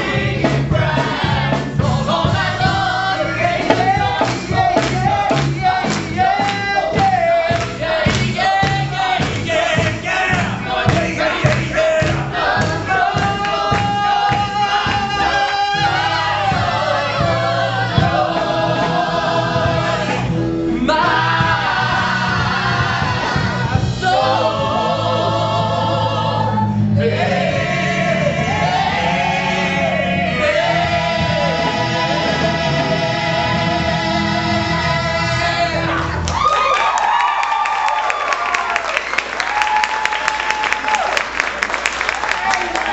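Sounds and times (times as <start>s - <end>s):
band accompaniment: 0.0s - 36.5s
gospel choir singing: 0.0s - 36.5s.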